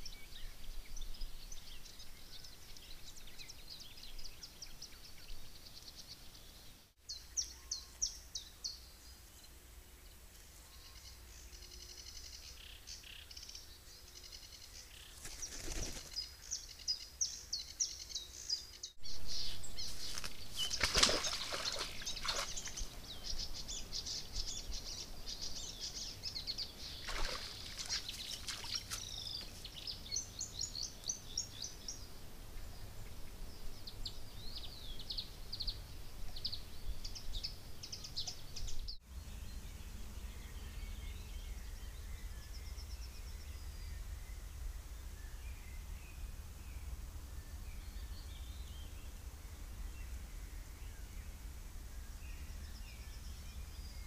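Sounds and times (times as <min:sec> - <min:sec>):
small birds chirping: 0:00.0 - 0:49.2
steady background hiss: 0:00.0 - 0:54.0.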